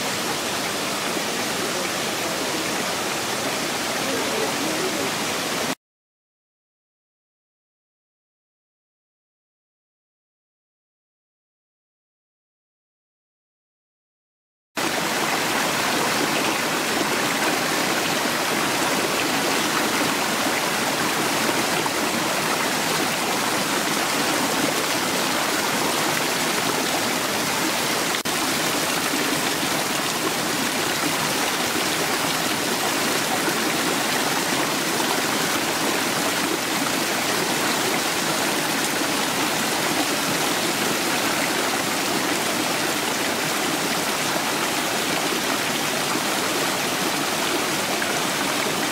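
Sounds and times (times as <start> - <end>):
fountain water splashing: 0.0 - 5.7, 14.8 - 48.9.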